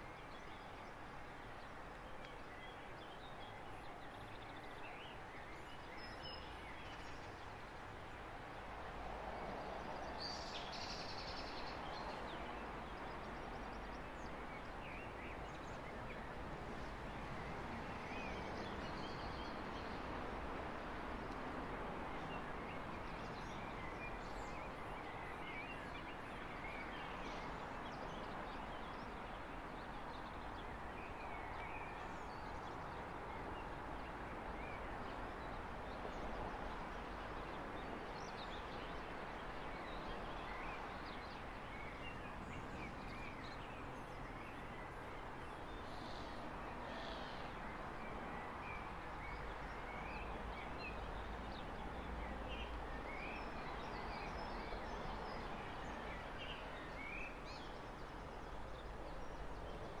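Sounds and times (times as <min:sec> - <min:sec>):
outdoor background noise: 0:00.0 - 1:00.0.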